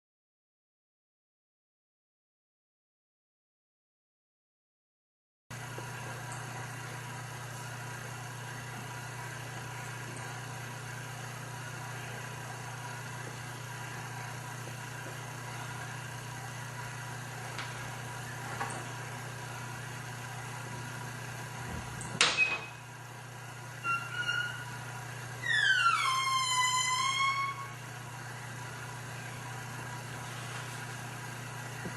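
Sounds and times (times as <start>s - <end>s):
low electrical hum: 5.5s - 31.9s.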